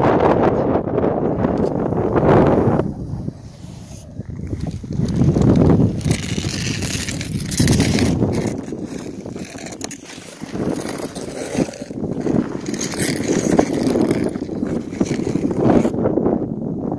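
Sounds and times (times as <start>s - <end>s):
wind rumbling on microphone: 0.0s - 16.9s
skate blades scraping ice: 2.4s - 16.0s.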